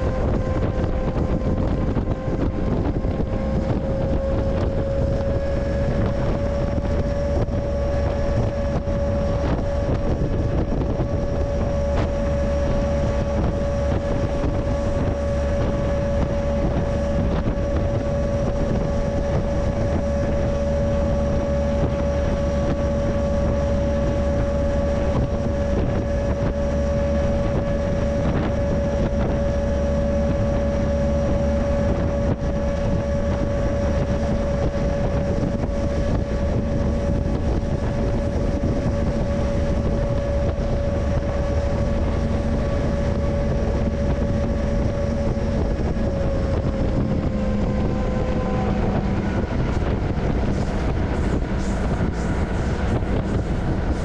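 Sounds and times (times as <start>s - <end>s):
freight train rumble and drone: 0.0s - 54.0s
wind buffeting microphone: 0.0s - 54.0s.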